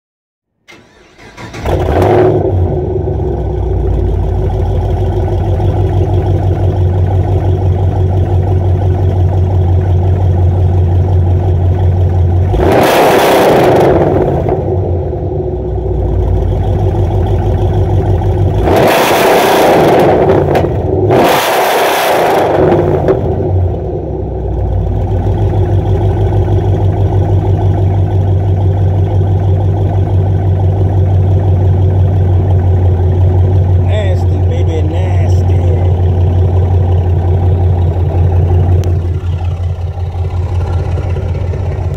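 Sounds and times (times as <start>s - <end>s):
car engine starting: 0.6s - 41.9s
car engine idling: 0.7s - 21.3s, 22.4s - 41.9s
car engine revving: 0.7s - 41.9s.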